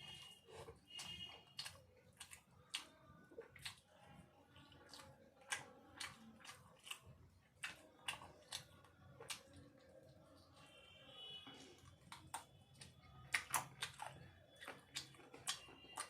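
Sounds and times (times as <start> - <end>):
person chewing with mouth clicks: 0.0 - 10.4, 11.4 - 16.0.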